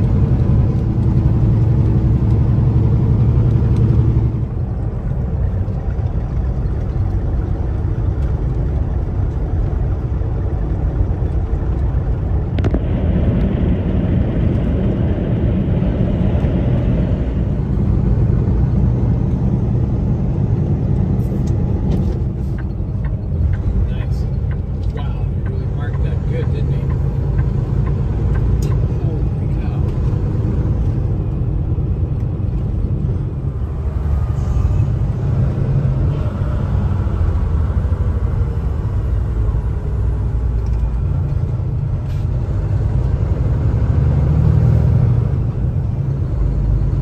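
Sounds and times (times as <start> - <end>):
truck diesel engine and road noise: 0.0 - 47.0.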